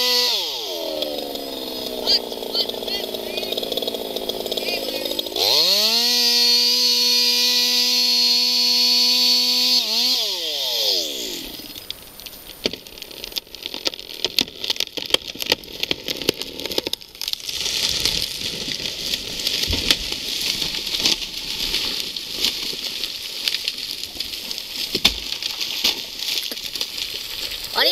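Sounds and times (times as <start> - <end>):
chainsaw running: 0.0 - 27.9
wood cracking and snapping: 0.0 - 27.9.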